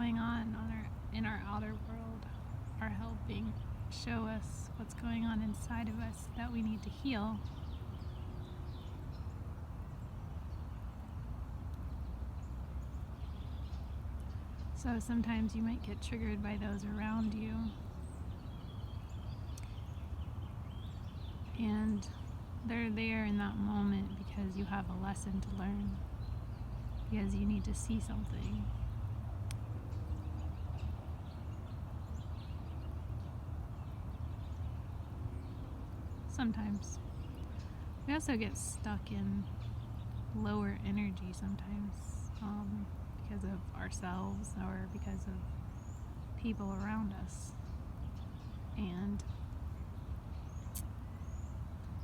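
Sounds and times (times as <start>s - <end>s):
steady low rumble: 0.0s - 9.3s, 13.2s - 52.0s.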